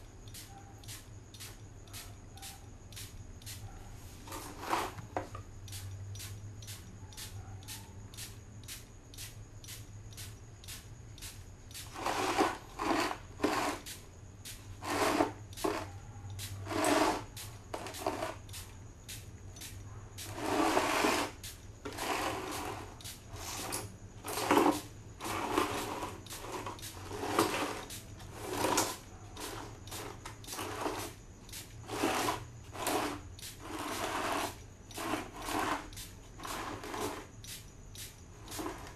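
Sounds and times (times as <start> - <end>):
spray bottle hissing: 0.3 - 3.6, 5.7 - 38.9.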